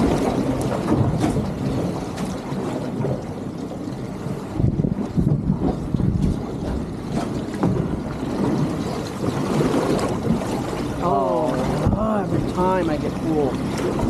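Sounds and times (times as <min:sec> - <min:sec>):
ocean water washing: 0:00.0 - 0:14.0
wind buffeting microphone: 0:00.0 - 0:14.0.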